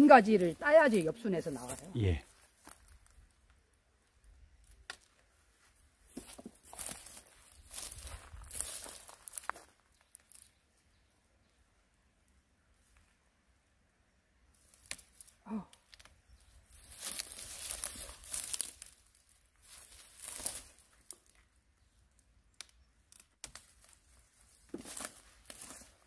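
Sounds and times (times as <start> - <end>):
dry stalks rustling: 0.0 - 11.1, 14.4 - 26.0.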